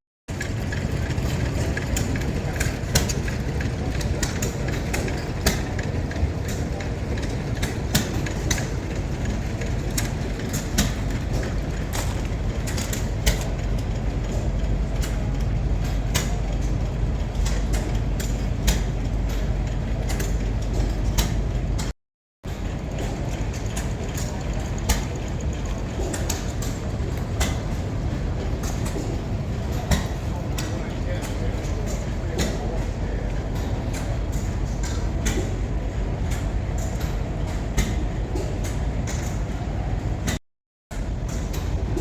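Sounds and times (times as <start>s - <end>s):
engine rumbling: 0.3s - 42.0s
sharp clicks and knocks: 0.3s - 42.0s.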